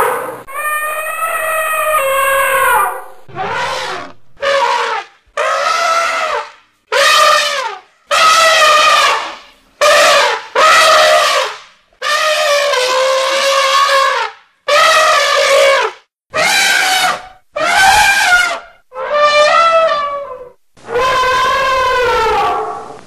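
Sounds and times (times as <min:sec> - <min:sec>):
elephant trumpeting: 0:00.0 - 0:23.0.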